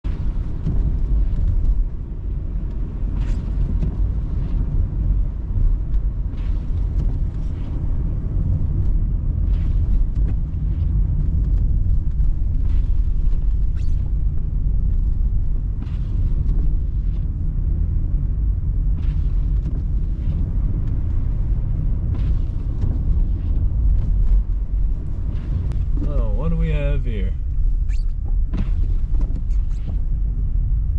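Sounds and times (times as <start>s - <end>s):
car driving rumble: 0.0s - 30.9s.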